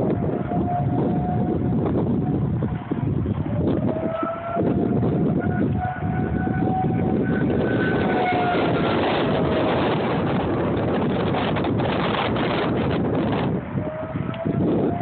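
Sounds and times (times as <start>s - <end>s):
distant warning siren wailing: 0.0s - 15.0s
wind buffeting microphone: 0.0s - 15.0s.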